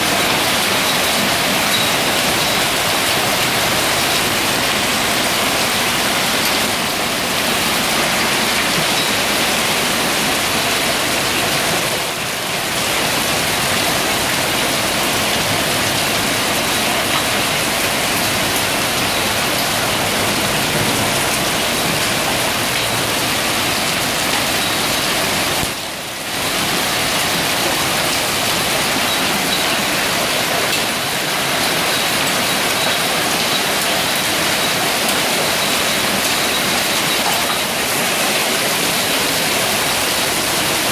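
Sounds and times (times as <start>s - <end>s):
hail and rain pelting: 0.0s - 40.9s.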